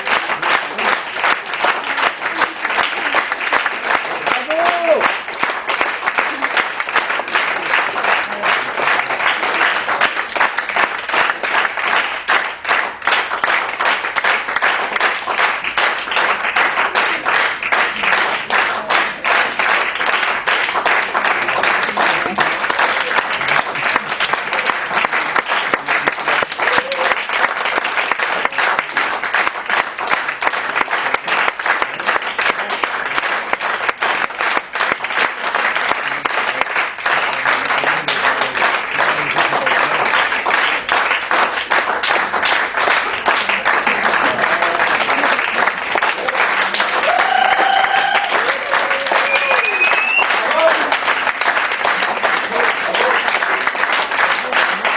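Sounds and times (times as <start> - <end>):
audience applauding: 0.0 - 54.9.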